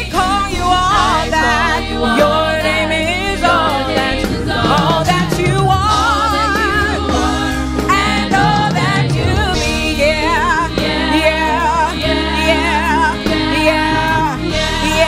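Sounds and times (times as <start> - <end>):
gospel band playing: 0.0 - 15.0
person singing with vibrato: 0.0 - 15.0.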